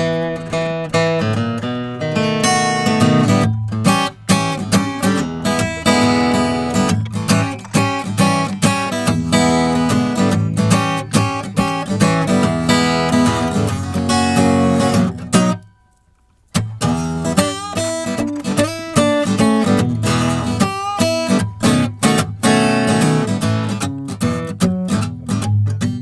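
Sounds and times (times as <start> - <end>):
strummed acoustic guitar music: 0.0 - 26.0.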